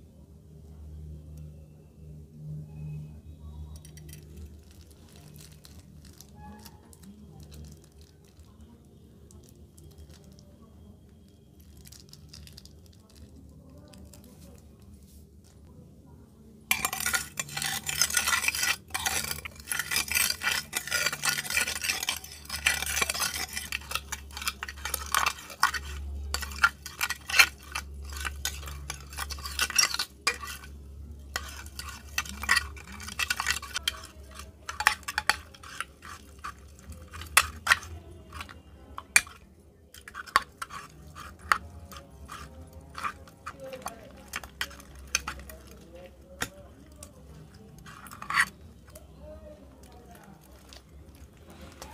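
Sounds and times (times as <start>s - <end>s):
spoon scraping through slime: 3.6s - 15.6s, 16.7s - 51.9s.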